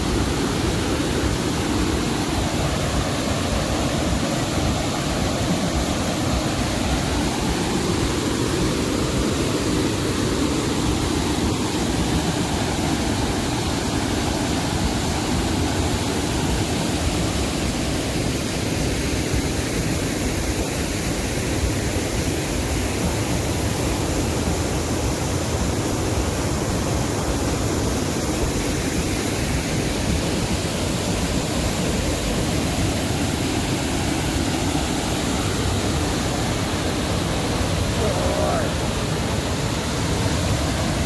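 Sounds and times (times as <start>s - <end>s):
waterfall rushing over rocks: 0.0s - 41.0s.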